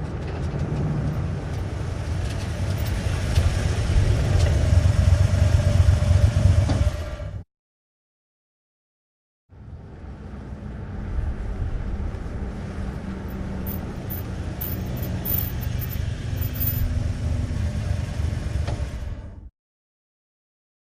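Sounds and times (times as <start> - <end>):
truck engine rumbling: 0.0 - 7.4, 9.6 - 19.5.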